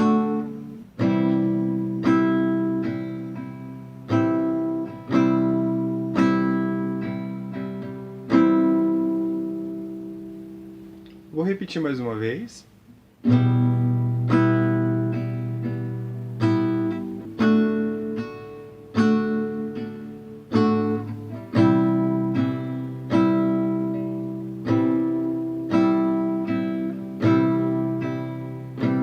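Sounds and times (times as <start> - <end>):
acoustic guitar strummed slowly: 0.0 - 11.3, 12.8 - 29.0.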